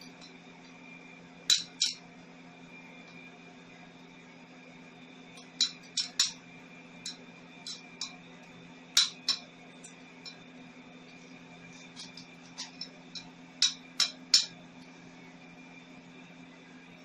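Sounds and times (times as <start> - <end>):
welding machine humming: 0.0 - 17.0.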